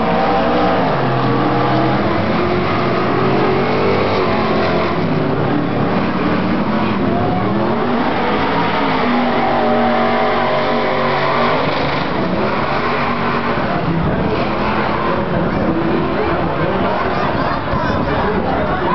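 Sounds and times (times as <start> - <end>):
truck engine revving: 0.0 - 18.9.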